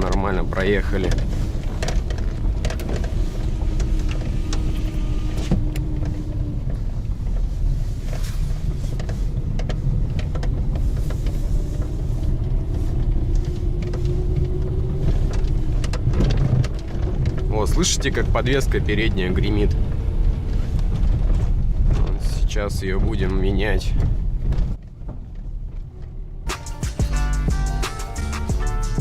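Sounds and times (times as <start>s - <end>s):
suspension knocks and rattles: 0.0s - 27.1s
low road rumble: 0.0s - 29.0s.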